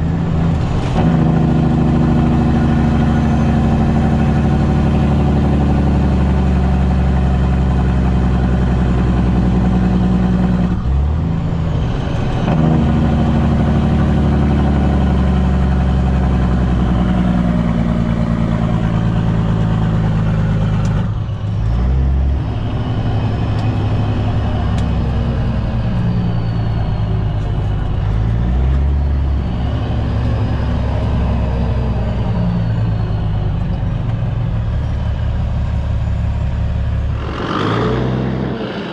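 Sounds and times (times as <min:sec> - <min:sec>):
diesel truck engine: 0:00.0 - 0:38.9.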